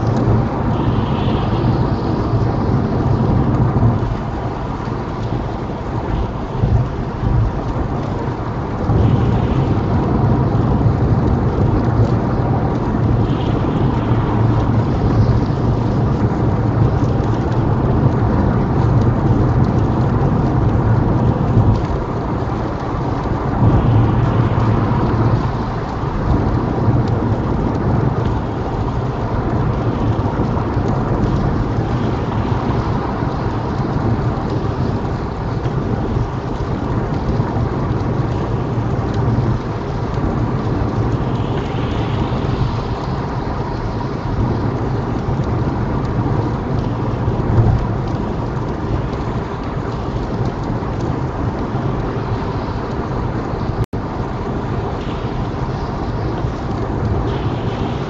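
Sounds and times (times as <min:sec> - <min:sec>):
rain hissing on windscreen: 0:00.0 - 0:58.0
road and tyre rumble: 0:00.0 - 0:58.0.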